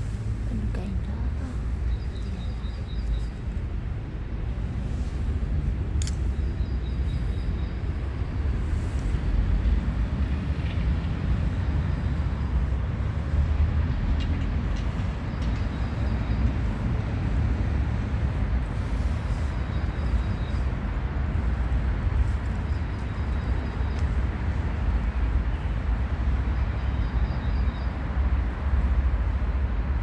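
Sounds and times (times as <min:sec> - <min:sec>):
low rumble: 0:00.0 - 0:26.4.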